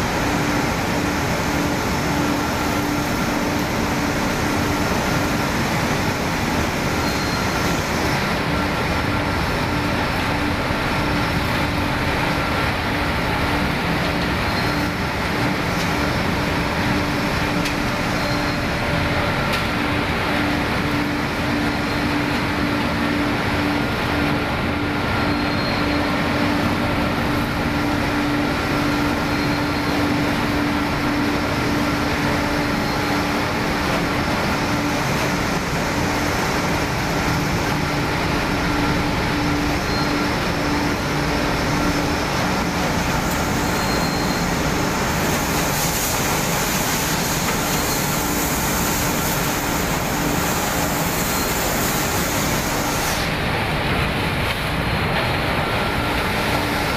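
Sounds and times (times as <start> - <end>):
recycling machine running: 0.0 - 56.9.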